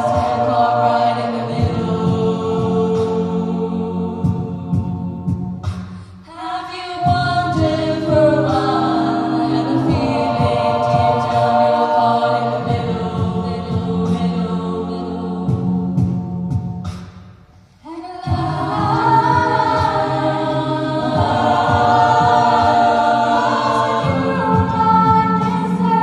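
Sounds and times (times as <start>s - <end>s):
vocal group singing in harmony: 0.0s - 17.0s, 17.8s - 26.0s.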